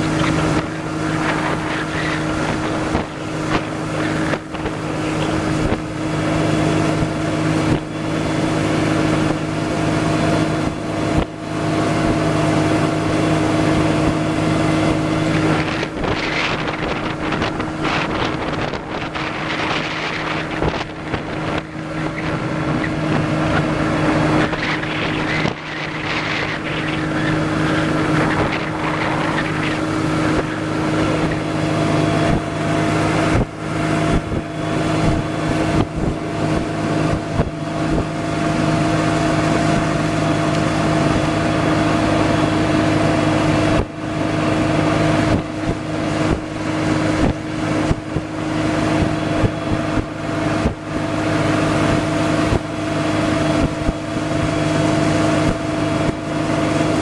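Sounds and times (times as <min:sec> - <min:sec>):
motorboat engine running: 0:00.0 - 0:57.0
wind buffeting microphone: 0:00.0 - 0:57.0.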